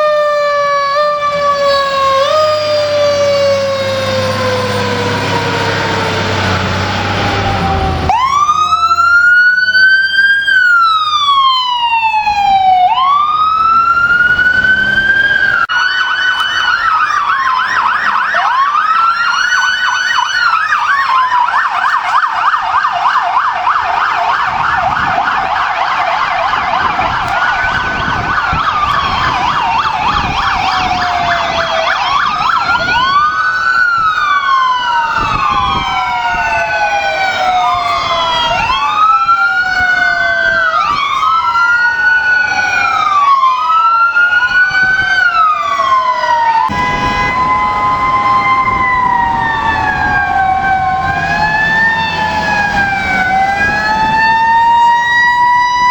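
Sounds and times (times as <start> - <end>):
siren wailing: 0.0 - 55.9
siren yelping: 0.0 - 55.9.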